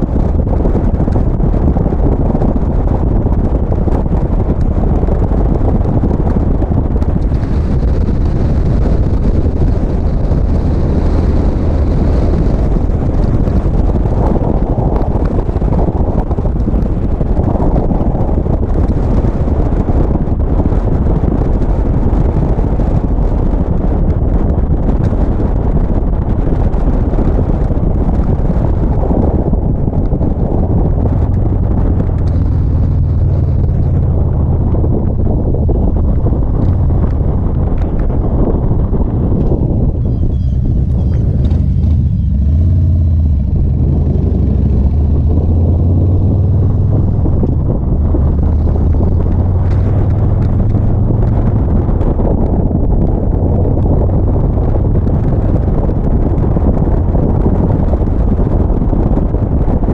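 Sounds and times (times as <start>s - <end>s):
motorcycle engine running: 0.0s - 59.9s
wind rushing on microphone: 0.0s - 59.9s.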